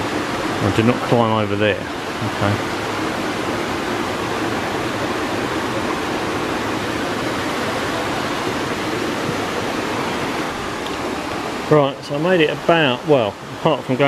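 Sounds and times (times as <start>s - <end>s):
waterfall rushing over rocks: 0.0s - 14.0s.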